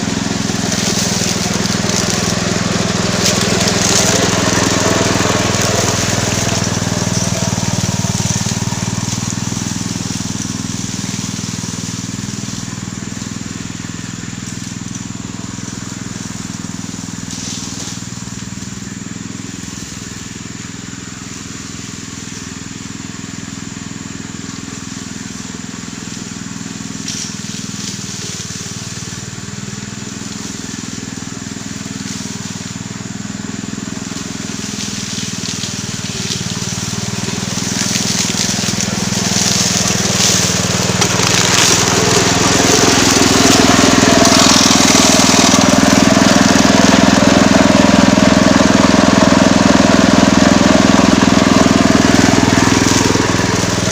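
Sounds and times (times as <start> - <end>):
grass cutter engine running: 0.0 - 53.9
vegetation crackling: 0.0 - 53.9.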